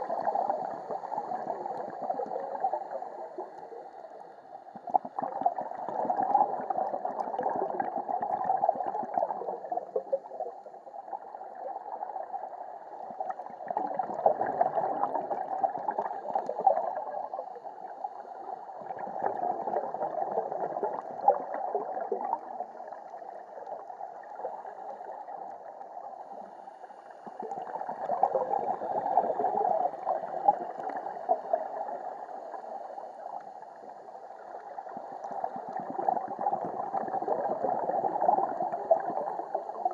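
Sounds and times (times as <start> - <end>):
underwater exhaled bubbles gurgling: 0.0 - 39.9.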